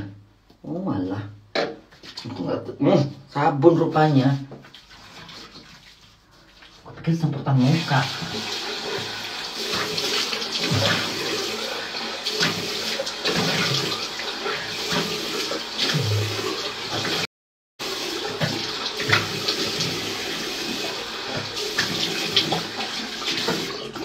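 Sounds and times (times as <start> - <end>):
tap water running into basin: 4.5 - 24.0.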